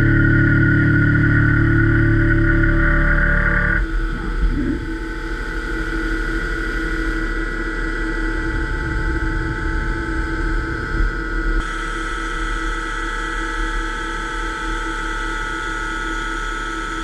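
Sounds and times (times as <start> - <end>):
milling machine whine and rumble: 0.0 - 17.0.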